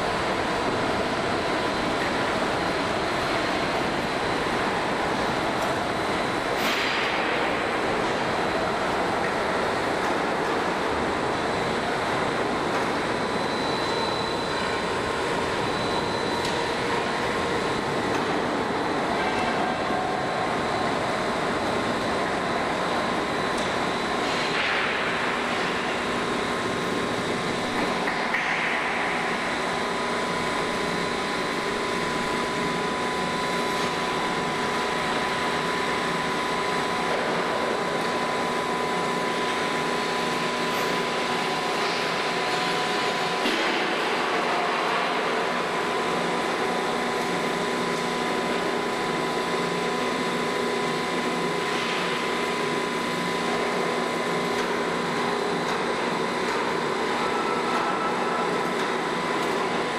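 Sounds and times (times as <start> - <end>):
plate rolling machine humming: 0.0 - 59.9.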